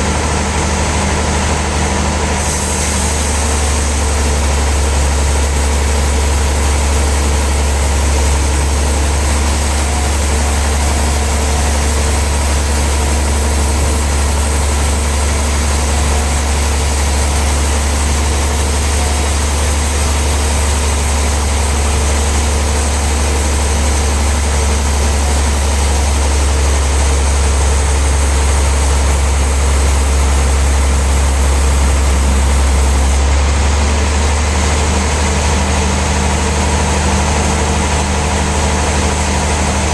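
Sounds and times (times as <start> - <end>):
sawmill machinery deep hum: 0.0 - 39.9.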